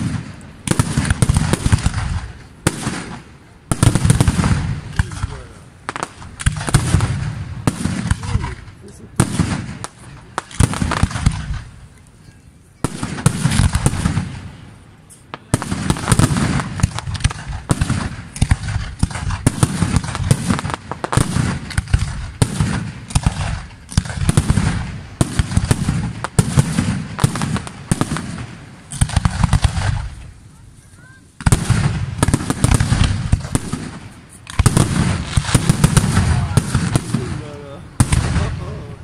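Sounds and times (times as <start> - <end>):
fireworks booms: 0.0 - 11.8, 12.8 - 30.6, 31.4 - 39.0
fireworks crackling: 0.0 - 39.0.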